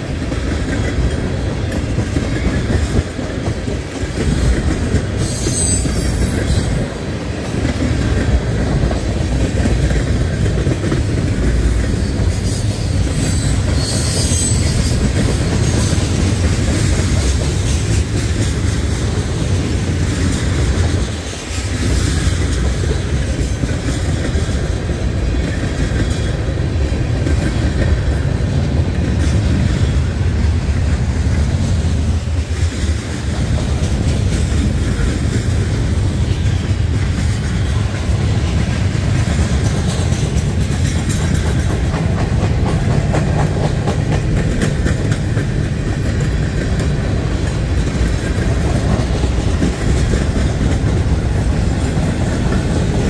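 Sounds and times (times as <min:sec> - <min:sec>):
continuous rail clicking: 0:00.0 - 0:53.0
freight train wheels rumbling: 0:00.0 - 0:53.0.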